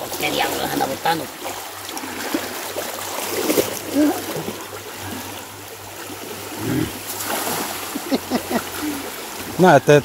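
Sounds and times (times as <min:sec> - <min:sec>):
creek rushing: 0:00.0 - 0:10.0
people wading splashing: 0:00.0 - 0:10.0.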